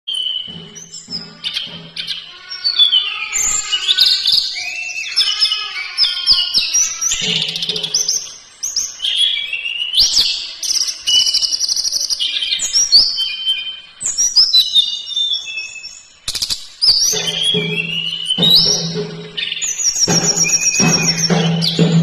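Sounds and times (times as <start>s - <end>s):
songbird singing: 0.1s - 22.0s.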